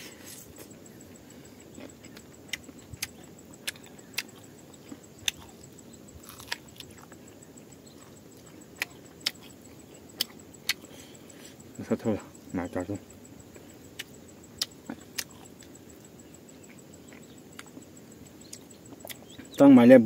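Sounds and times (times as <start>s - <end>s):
person chewing food: 0.0s - 11.8s, 13.2s - 19.6s.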